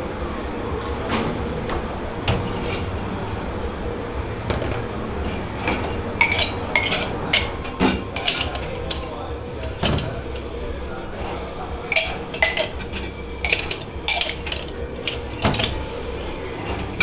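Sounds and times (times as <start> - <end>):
plates and cutlery clinking: 0.8 - 17.0.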